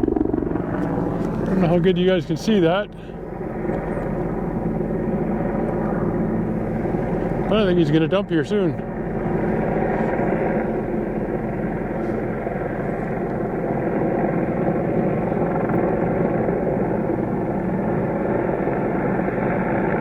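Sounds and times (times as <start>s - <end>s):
boat engine idling: 0.0s - 18.3s
helicopter flying: 0.0s - 20.0s.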